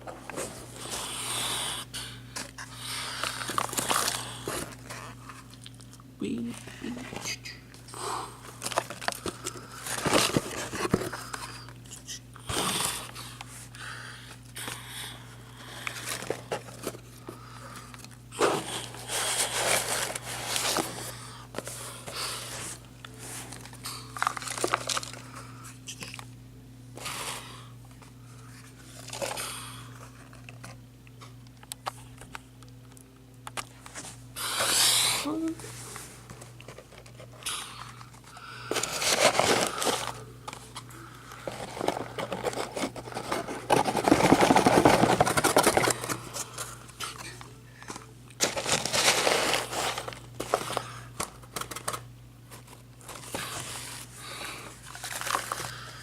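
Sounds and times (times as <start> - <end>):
low electrical hum: 0.0 - 56.0
crinkling and rustling handling noise: 2.3 - 14.8, 15.5 - 27.0, 27.8 - 34.3, 35.2 - 56.0.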